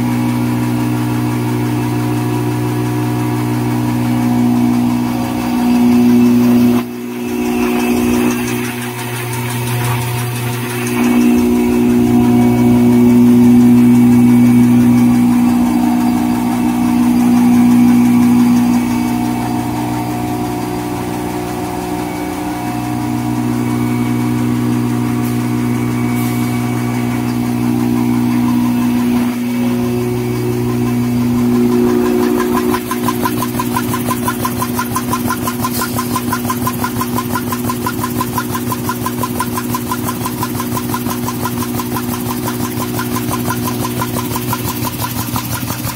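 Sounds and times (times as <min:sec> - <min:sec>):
rollers folding in mechanical rhythm: 0:00.0 - 0:45.9
vacuum blower humming: 0:00.0 - 0:45.9.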